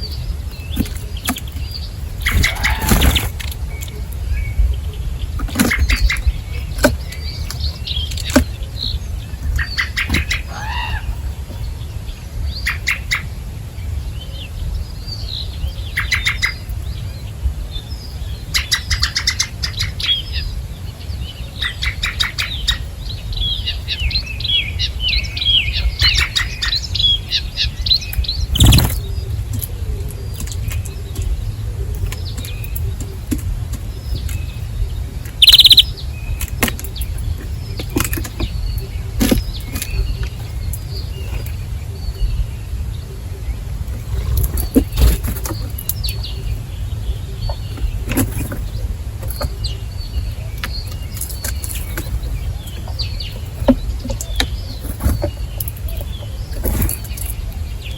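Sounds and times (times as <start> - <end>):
songbirds chirping: 0.0 - 57.9
steady low rumble: 0.0 - 57.9.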